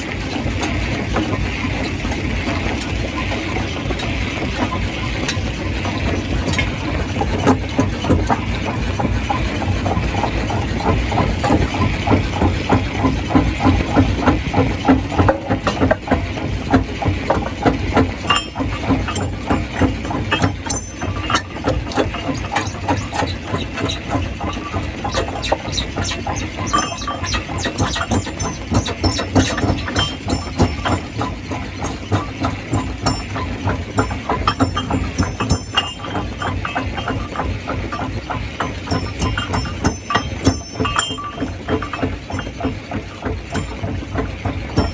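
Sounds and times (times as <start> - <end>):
stone crusher machine drone: 0.0 - 44.9.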